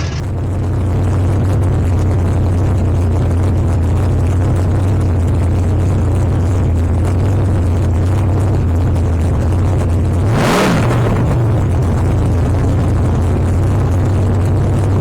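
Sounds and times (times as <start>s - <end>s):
race car engine idling: 0.0s - 15.0s.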